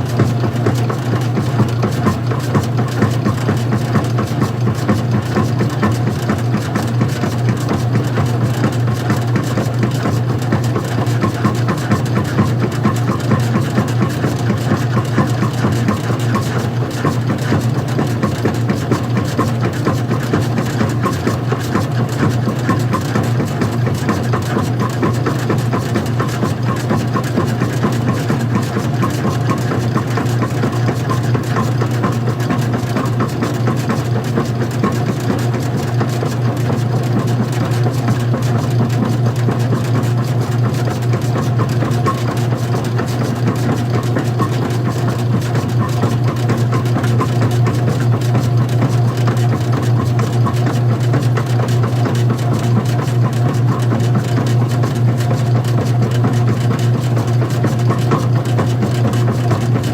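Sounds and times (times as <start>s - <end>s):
washing machine running: 0.0s - 59.9s.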